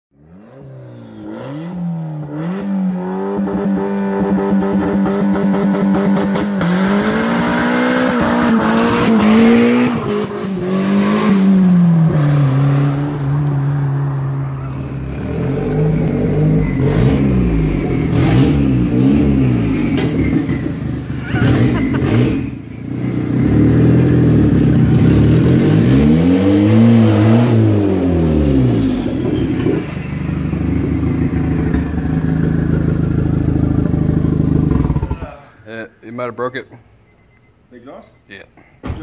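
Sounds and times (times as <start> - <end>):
engine revving: 0.1 - 35.4.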